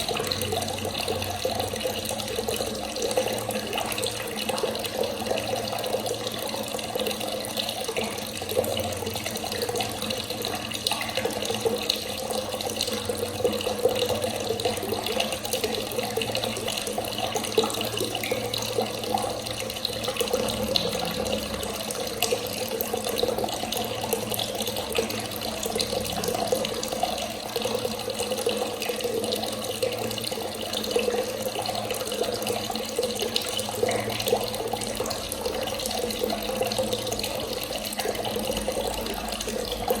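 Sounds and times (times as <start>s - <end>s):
water running from tap: 0.0s - 40.0s.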